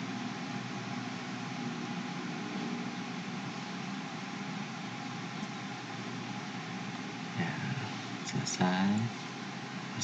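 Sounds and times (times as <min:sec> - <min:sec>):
low hum: 0:00.0 - 0:10.0
steady background hiss: 0:00.0 - 0:10.0.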